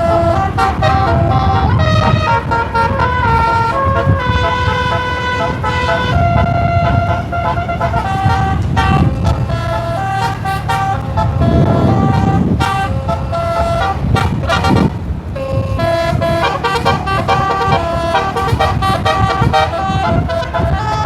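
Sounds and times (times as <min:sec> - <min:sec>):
bus engine running: 0:00.0 - 0:21.0
multi-tone bus horn melody: 0:00.0 - 0:21.0.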